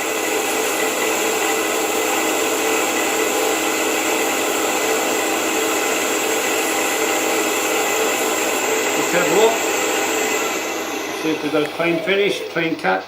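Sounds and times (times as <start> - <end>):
wood lathe hum: 0.0 - 13.0.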